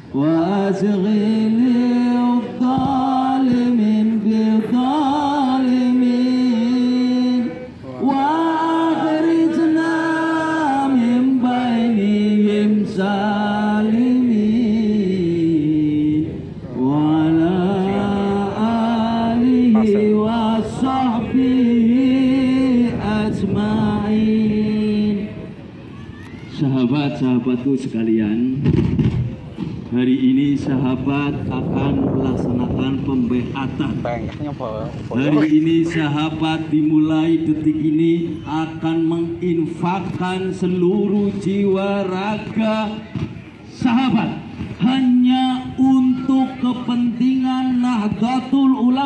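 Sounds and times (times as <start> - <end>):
man chanting devotional song: 0.0 - 25.4, 29.9 - 49.0.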